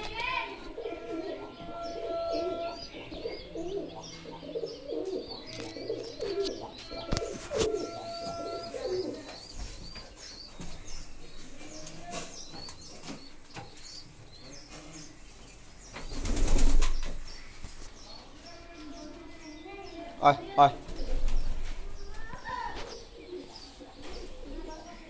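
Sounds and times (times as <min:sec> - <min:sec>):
pigeons cooing: 0:00.0 - 0:15.1, 0:19.0 - 0:25.0.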